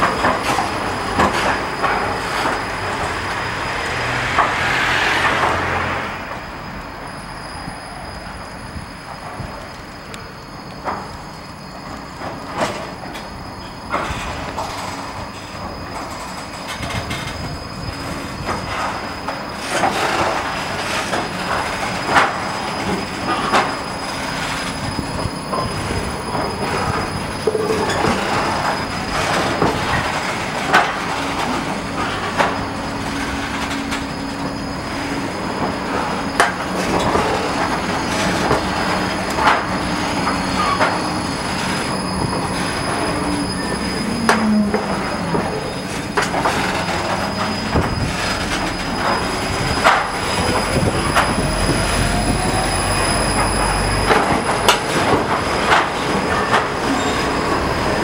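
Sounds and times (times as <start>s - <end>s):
tram rolling past: 0.0s - 58.0s
tram wheel squeal: 0.0s - 58.0s.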